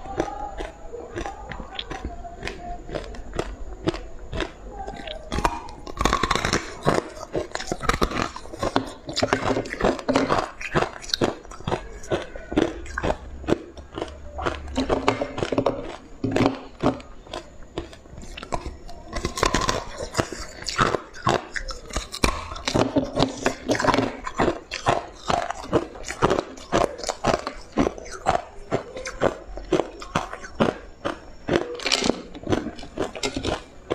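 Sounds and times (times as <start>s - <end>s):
wet chewing: 0.0s - 33.9s.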